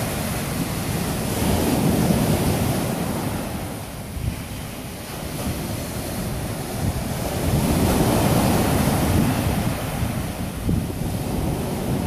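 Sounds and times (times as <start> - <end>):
surf breaking on beach: 0.0 - 12.0
wind rumble on microphone: 0.0 - 12.0.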